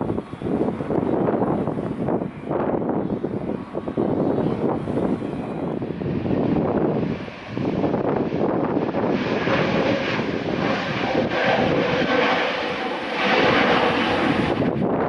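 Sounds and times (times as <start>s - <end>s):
jet engines rushing at takeoff: 0.0s - 15.0s.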